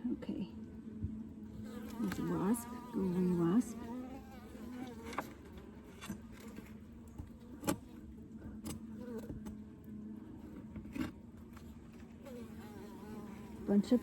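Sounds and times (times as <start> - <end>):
honeybees buzzing: 1.2 - 14.0.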